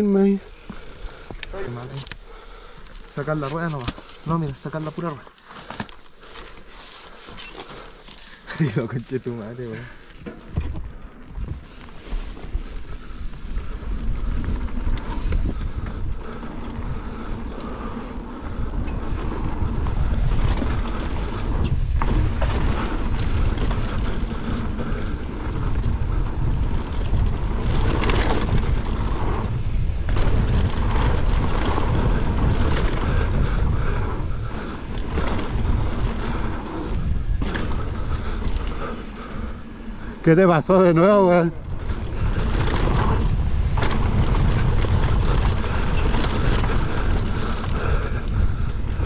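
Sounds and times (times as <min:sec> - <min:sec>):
bike tyres rolling on dirt: 0:00.0 - 0:49.0
wind rumbling over microphone: 0:08.8 - 0:49.0.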